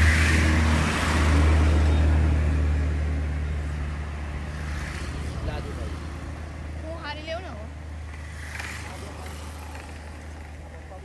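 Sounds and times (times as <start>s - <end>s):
vehicle engine humming: 0.0s - 11.0s
wind and road noise: 0.0s - 11.0s.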